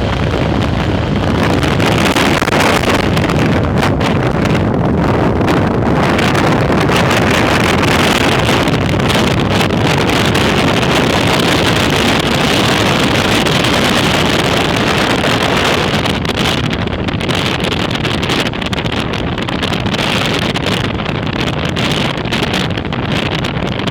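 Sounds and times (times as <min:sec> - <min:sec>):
motorcycle engine running: 0:00.0 - 0:20.1
wind buffeting microphone: 0:00.0 - 0:23.9.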